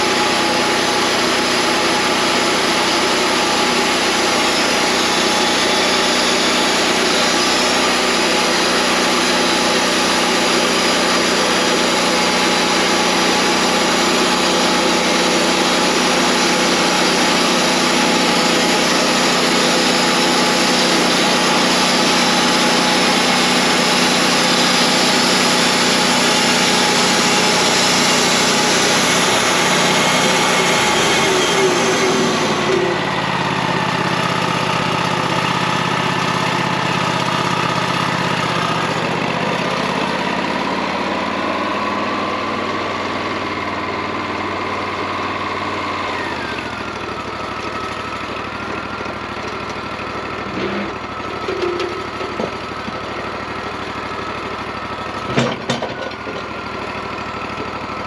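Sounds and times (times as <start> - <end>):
bandsaw mill running: 0.0 - 58.0.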